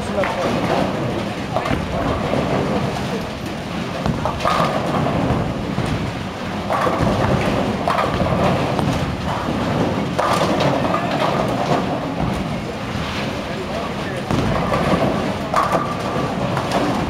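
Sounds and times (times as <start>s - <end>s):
bowling balls rumbling: 0.0s - 17.0s
pins crashing: 0.5s - 13.1s, 14.2s - 17.0s.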